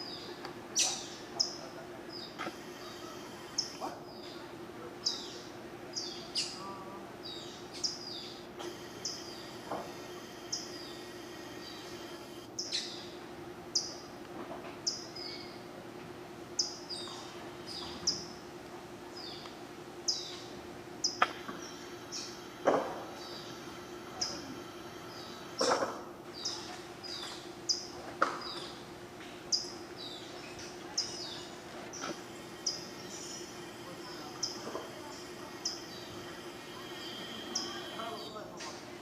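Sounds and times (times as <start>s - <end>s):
birds calling: 0.0s - 14.1s, 19.1s - 28.9s, 29.5s - 38.6s
steady low hum: 0.0s - 39.0s.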